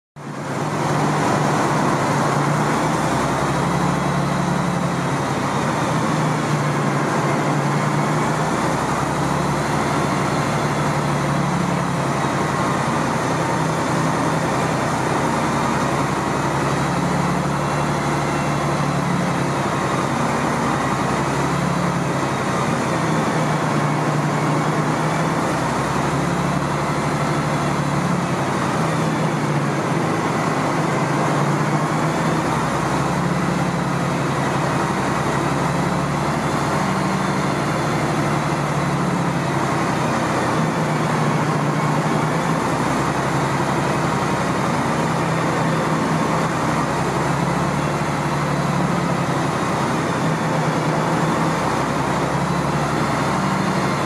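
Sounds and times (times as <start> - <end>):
bus diesel engine idling: 0.2 - 54.0.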